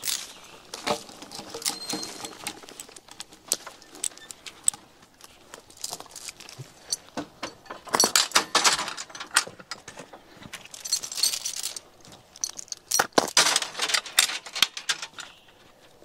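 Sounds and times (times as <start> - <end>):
metal chain rattling: 0.0 - 9.9, 10.6 - 15.4.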